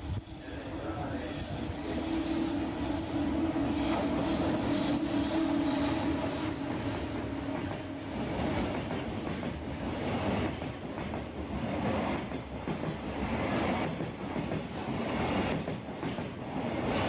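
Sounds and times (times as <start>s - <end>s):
freight train wagons rumbling: 0.4s - 17.0s.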